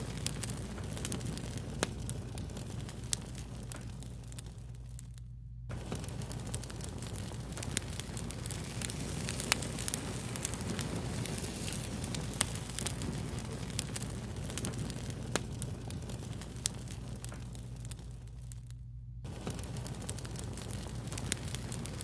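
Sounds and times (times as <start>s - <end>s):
fire crackling and popping: 0.0s - 22.0s
low hum: 0.1s - 21.6s.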